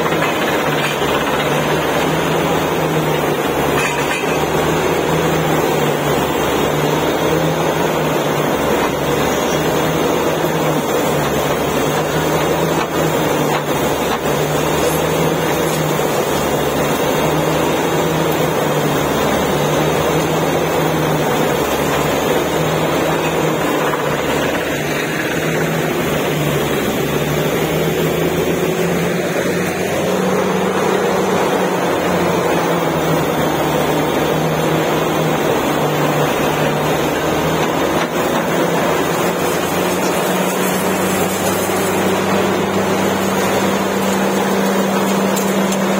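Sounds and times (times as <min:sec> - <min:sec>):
drilling rig engine drone: 0:00.0 - 0:45.9.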